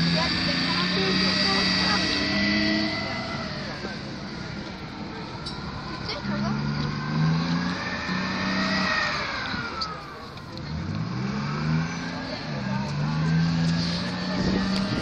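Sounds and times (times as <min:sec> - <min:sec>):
tracked vehicle engine revving: 0:00.0 - 0:15.0.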